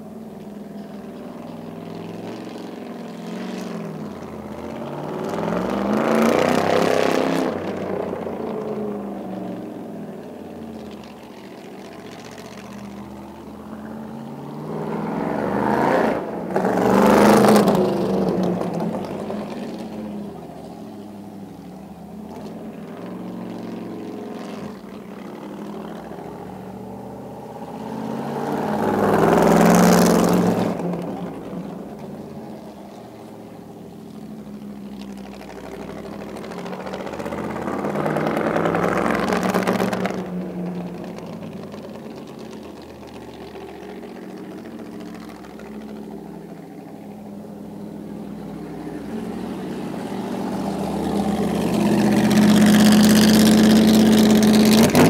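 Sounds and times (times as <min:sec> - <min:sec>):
racing car engine passing: 0:00.0 - 0:55.0.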